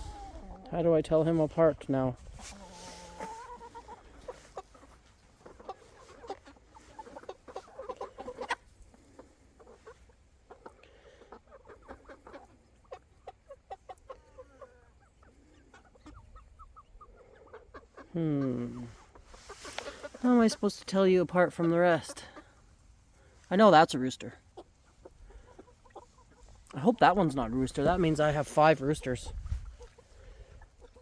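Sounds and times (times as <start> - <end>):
young chickens clucking: 0.0 - 31.0.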